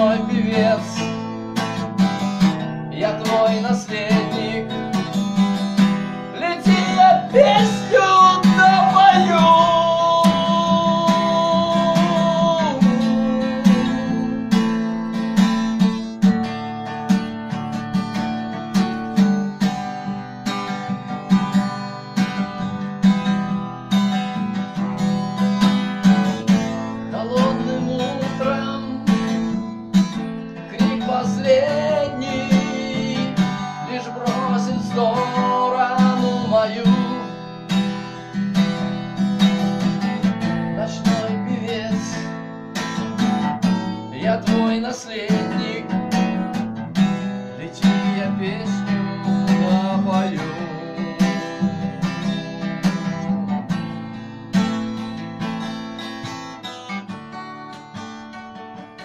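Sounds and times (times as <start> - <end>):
acoustic guitar strummed: 0.0 - 59.0.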